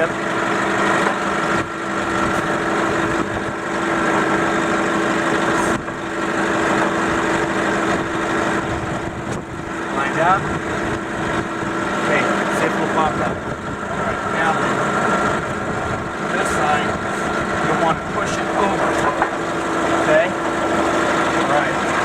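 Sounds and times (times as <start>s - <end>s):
forklift engine idling: 0.0s - 22.0s.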